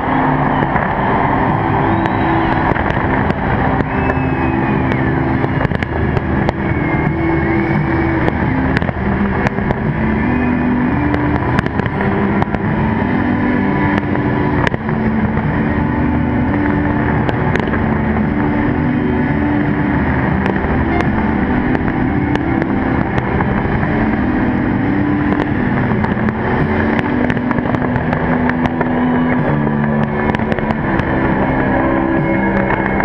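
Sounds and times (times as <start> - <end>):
fireworks bursts and cracks: 0.0 - 33.0
low held music notes: 0.0 - 33.0.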